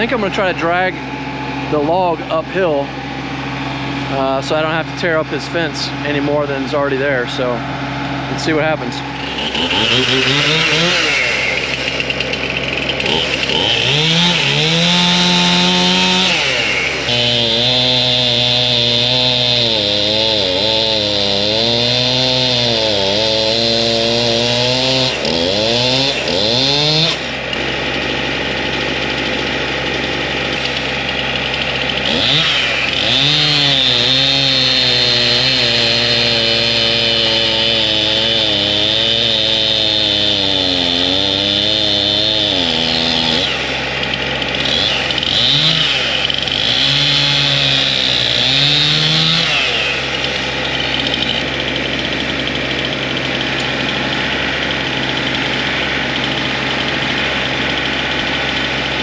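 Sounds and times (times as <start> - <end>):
chainsaw cutting at full throttle: 0.0 - 59.0
engine running steadily: 0.0 - 59.0.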